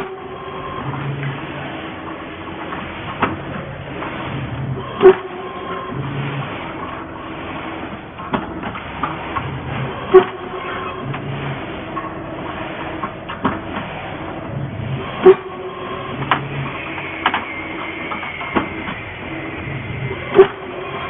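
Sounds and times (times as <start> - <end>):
loud machine clack: 0.0 - 21.0
wire bending machine motor hum: 0.0 - 21.0.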